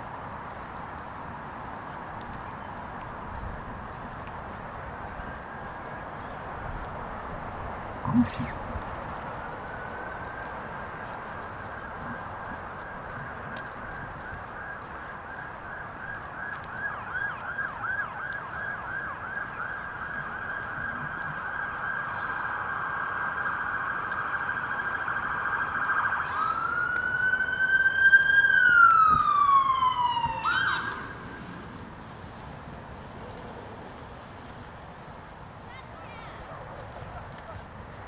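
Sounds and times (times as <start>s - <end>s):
emergency vehicle siren: 0.0s - 35.3s.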